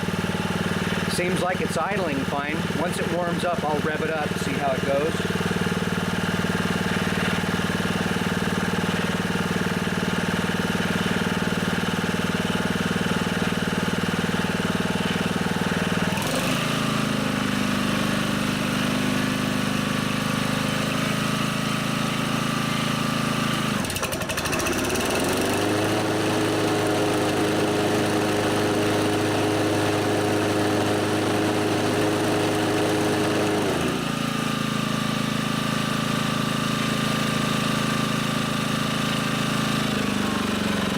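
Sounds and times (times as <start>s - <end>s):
lawnmower engine running: 0.0s - 40.9s.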